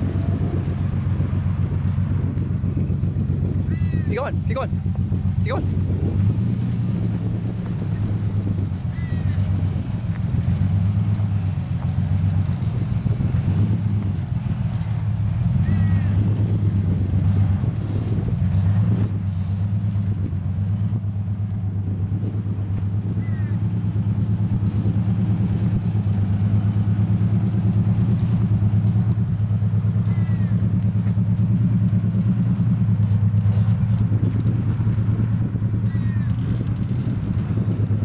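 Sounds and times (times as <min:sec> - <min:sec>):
truck engine running at low revs: 0:00.0 - 0:38.0.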